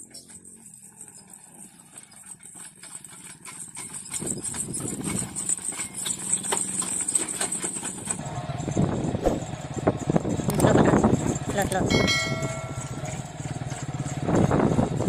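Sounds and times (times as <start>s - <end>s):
cart rolling and rattling: 0.0s - 15.0s
hooves clopping on asphalt: 0.1s - 15.0s.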